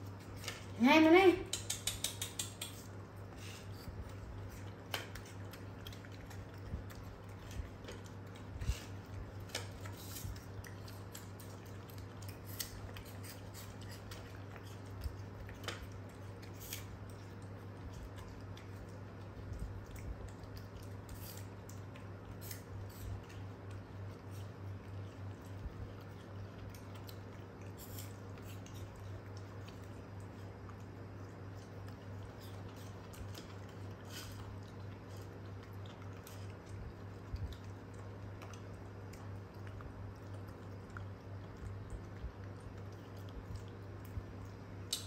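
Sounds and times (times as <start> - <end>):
monkeys chewing apple: 0.0 - 45.0
steady low hum: 0.0 - 45.0.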